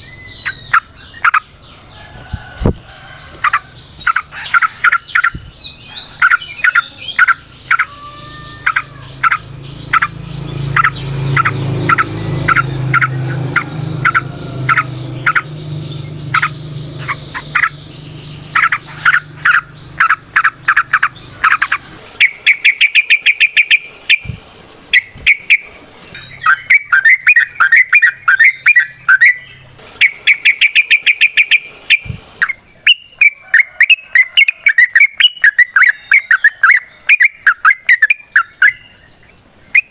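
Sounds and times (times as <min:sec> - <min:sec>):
bulbuls calling: 0:00.0 - 0:39.9.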